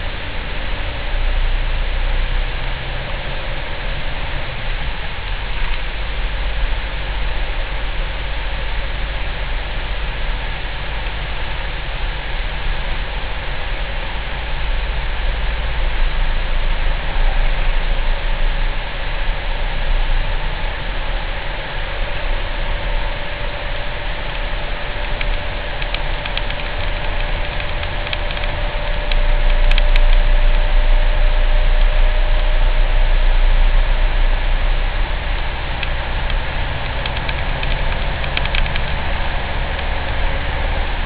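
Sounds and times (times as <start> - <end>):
car engine and road noise: 0.0 - 41.0
deep low hum: 0.0 - 41.0.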